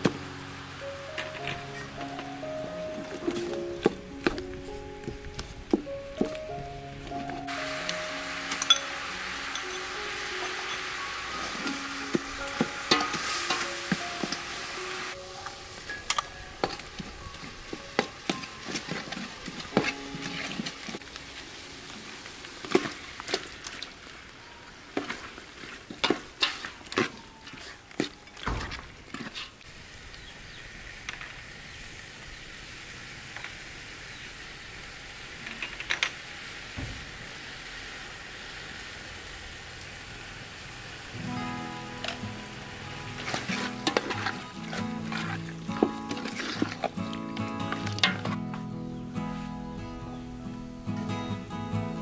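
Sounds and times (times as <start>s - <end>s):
curry sizzling in a pot: 0.0s - 28.1s, 29.2s - 49.3s.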